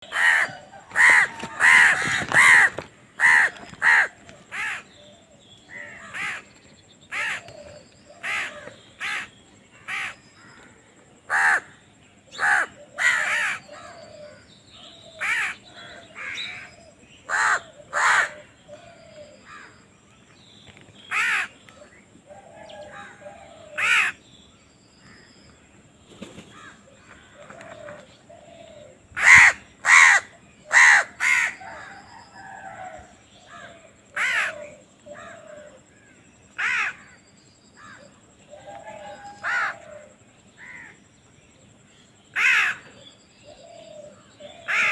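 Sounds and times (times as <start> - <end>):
crows cawing: 0.0 - 14.4, 15.1 - 19.8, 21.0 - 24.2, 26.5 - 37.2, 37.8 - 41.0, 42.3 - 42.9, 43.9 - 44.9.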